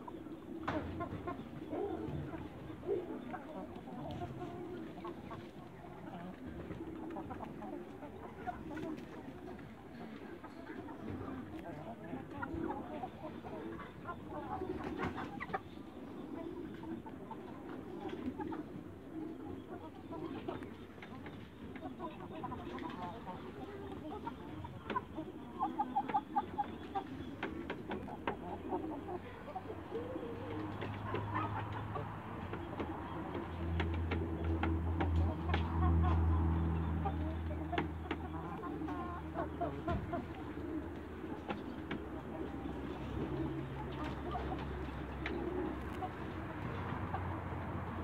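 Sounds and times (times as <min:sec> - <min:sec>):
chickens calling softly: 0:00.0 - 0:48.0
low chicken clucks: 0:00.0 - 0:48.0.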